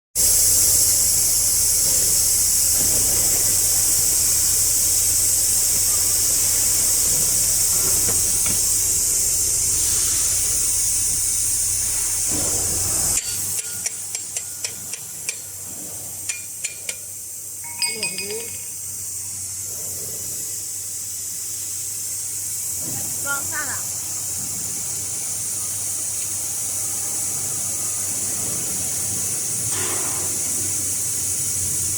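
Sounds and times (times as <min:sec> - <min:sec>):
compressed air hissing: 0:00.2 - 0:31.9.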